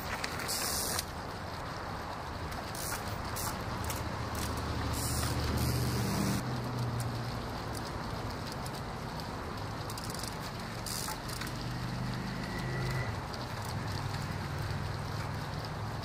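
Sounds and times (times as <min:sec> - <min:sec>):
outdoor hiss: 0:00.0 - 0:16.0
vehicle engine humming: 0:00.0 - 0:16.0.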